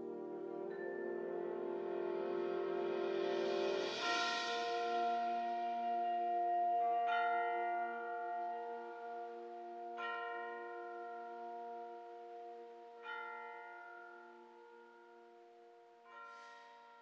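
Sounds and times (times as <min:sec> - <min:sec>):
tubular bells struck: 0:00.0 - 0:14.5.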